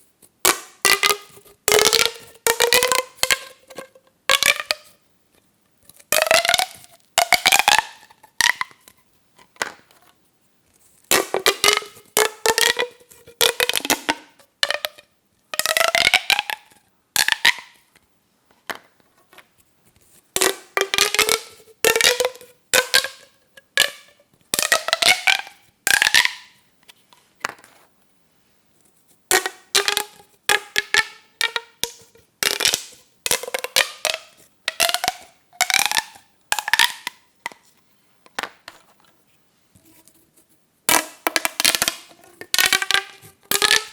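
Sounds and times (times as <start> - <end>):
plastic pop tubes popping: 0.4 - 5.0, 5.8 - 10.1, 11.1 - 19.5, 20.3 - 26.7, 29.3 - 39.0, 40.9 - 43.9.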